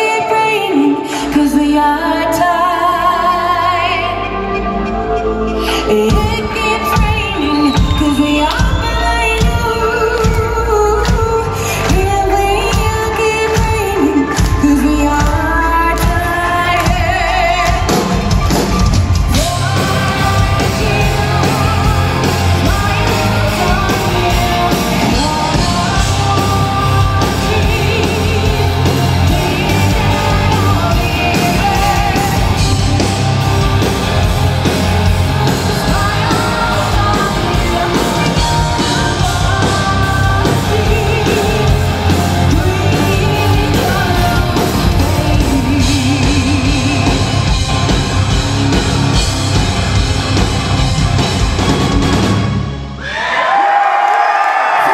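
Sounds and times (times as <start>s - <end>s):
woman singing lead: 0.0s - 49.6s
live symphonic metal band: 0.0s - 53.9s
electric guitar: 3.2s - 53.0s
pounding drum kit: 5.9s - 53.0s.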